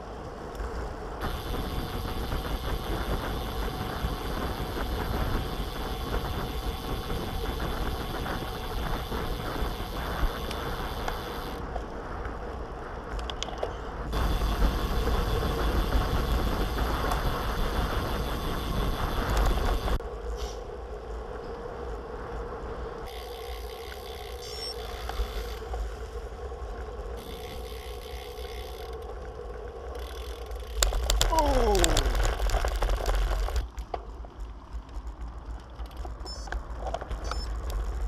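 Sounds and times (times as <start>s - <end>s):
bicycle tyres rolling on pavement: 0.0s - 38.0s
wind buffeting microphone: 0.0s - 38.0s.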